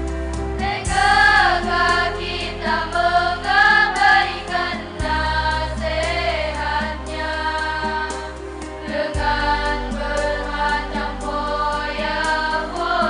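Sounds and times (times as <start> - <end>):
female choir singing: 0.6 - 13.0.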